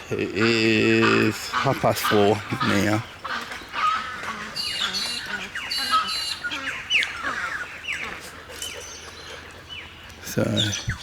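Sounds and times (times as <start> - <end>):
birds squawking and calling: 0.0 - 11.0.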